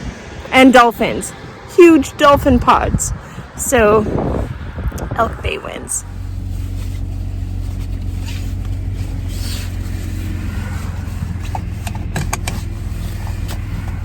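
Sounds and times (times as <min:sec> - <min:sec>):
van engine humming: 0:00.0 - 0:14.0.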